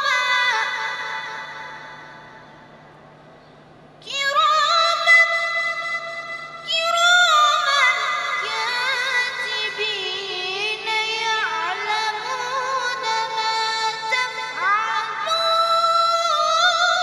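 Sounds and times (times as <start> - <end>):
boy chanting in a high voice: 0.0 - 2.1, 4.0 - 17.0.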